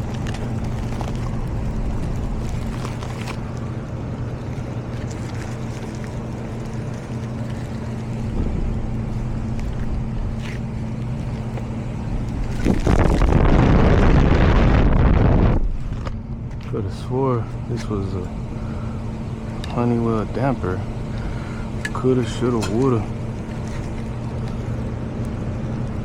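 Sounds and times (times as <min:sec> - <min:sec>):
air handler blower humming: 0:00.0 - 0:26.0.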